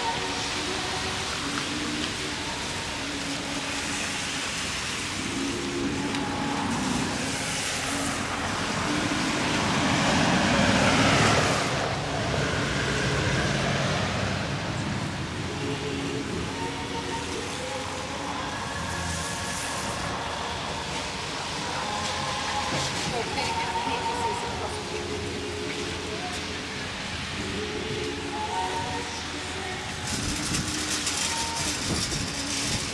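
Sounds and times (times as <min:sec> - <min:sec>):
car engines running: 0:00.0 - 0:32.9
tyres hissing on wet road: 0:00.0 - 0:32.9
truck driving by: 0:04.5 - 0:32.8.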